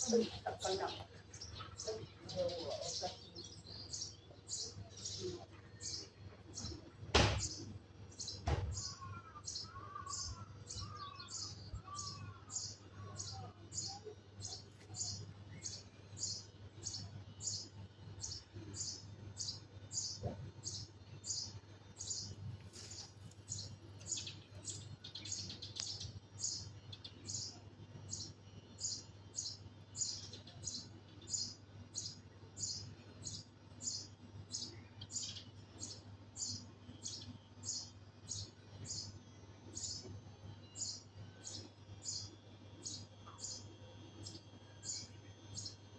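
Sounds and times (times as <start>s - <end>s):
sparrow chirping: 0.0s - 45.9s.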